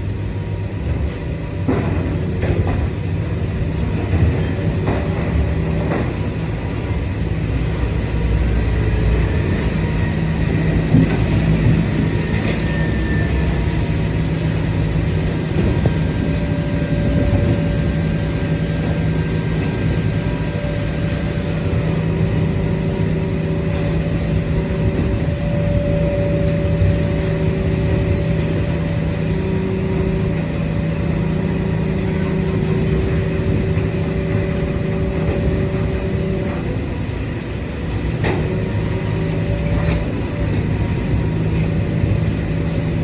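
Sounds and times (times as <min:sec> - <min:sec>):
hydraulic machine hum: 0:00.0 - 0:43.0
whining tones: 0:00.3 - 0:43.0.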